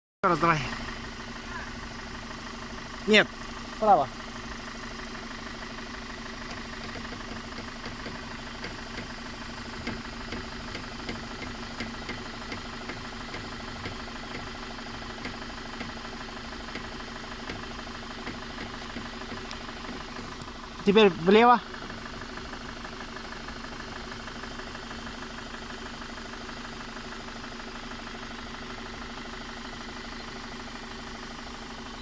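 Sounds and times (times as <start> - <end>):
car engine idling: 0.2 - 32.0.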